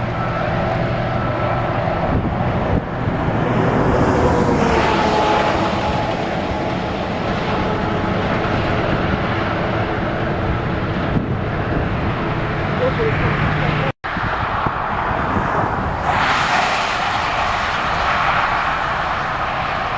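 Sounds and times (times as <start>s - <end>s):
road and engine noise in car: 0.0s - 19.9s.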